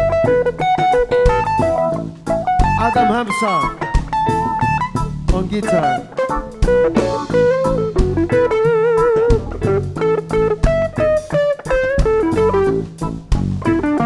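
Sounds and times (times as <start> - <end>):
electric guitar solo: 0.0 - 14.0
reggae band bass and drums: 0.0 - 14.0.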